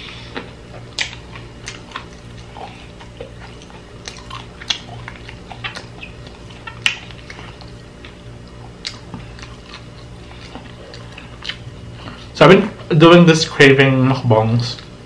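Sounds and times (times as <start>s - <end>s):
person chewing crunchy snack: 0.0s - 12.4s.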